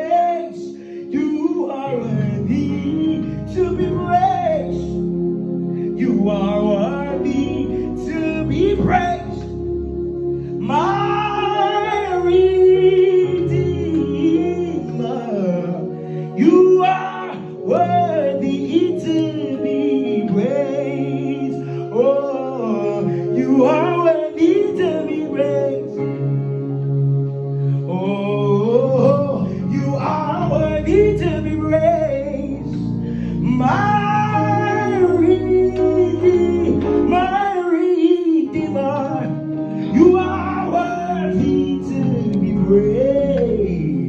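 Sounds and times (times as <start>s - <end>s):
sustained instrumental backing: 0.0s - 44.0s.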